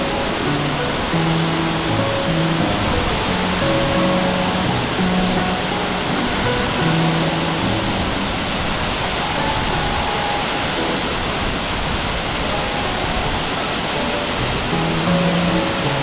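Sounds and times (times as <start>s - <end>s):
stream water rushing over rocks: 0.0s - 16.0s.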